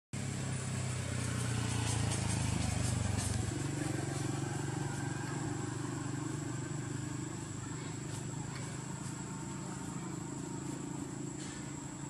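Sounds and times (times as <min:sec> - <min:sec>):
low engine hum: 0:00.2 - 0:12.0.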